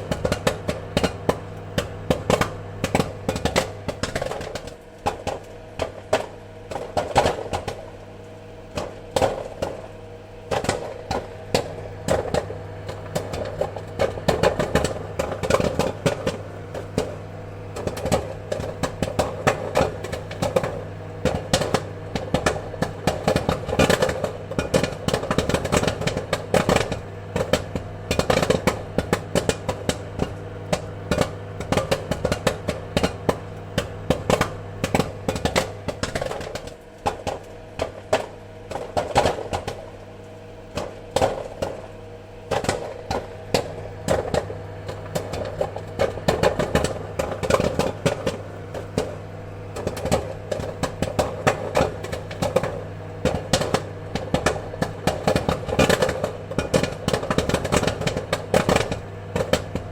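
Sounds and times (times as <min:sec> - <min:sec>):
popcorn popping: 0:00.0 - 0:59.9
steady low hum: 0:00.0 - 0:59.9.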